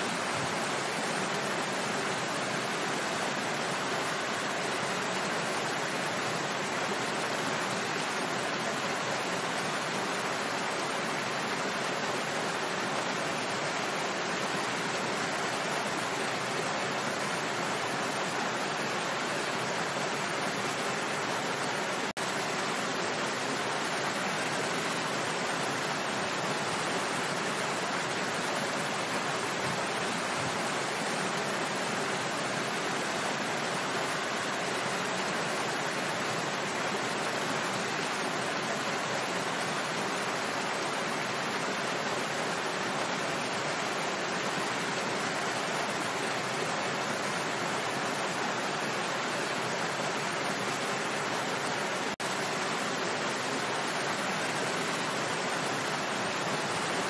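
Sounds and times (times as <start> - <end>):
small waterfall rushing: 0.0 - 57.0.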